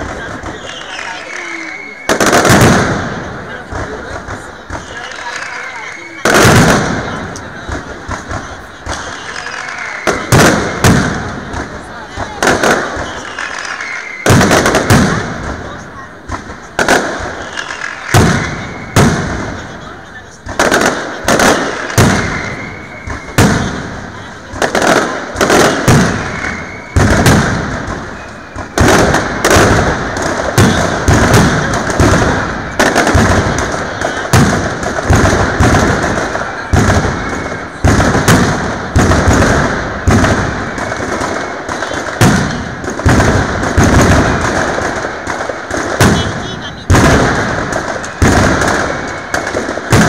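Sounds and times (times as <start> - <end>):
firecrackers banging: 0.0 - 50.0.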